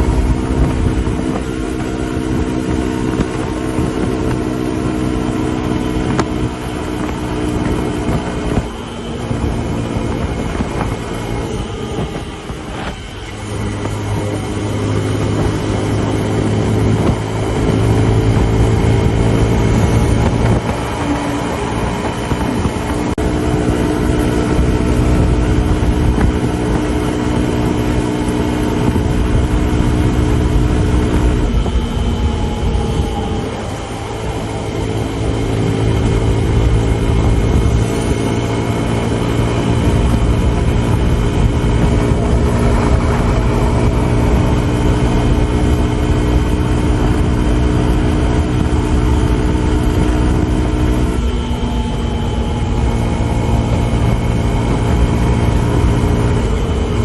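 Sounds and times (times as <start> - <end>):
motorcycle engine cruising: 0.0 - 57.0
wind and road noise: 0.0 - 57.0.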